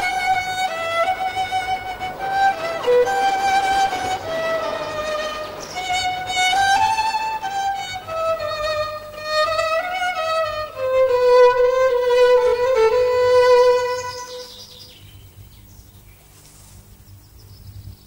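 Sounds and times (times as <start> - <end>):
solo violin slow melody: 0.0 - 14.9.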